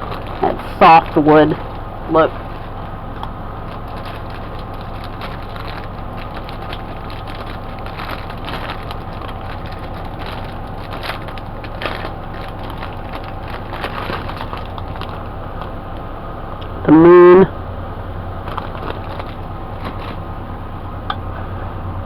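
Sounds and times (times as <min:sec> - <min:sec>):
packaging rustling and crinkling: 0:00.0 - 0:16.7, 0:18.4 - 0:20.6.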